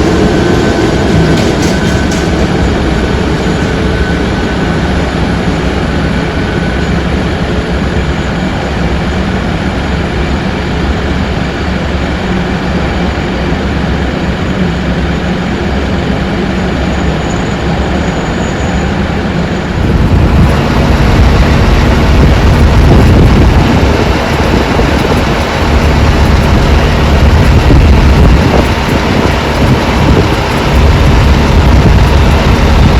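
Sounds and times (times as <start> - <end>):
aircraft engine rumble with whine: 0.0 - 32.9.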